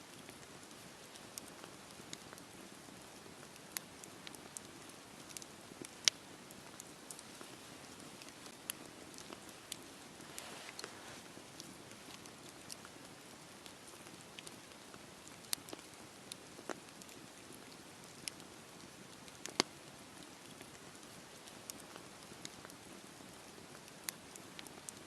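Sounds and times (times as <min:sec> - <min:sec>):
campfire crackling and popping: 0:00.1 - 0:25.0.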